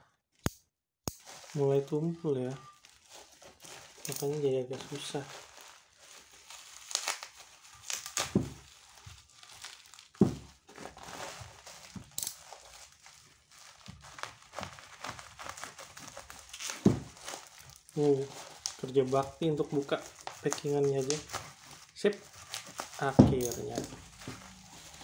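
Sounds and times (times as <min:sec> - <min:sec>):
plastic wrap crinkling and tearing: 0:01.2 - 0:25.0.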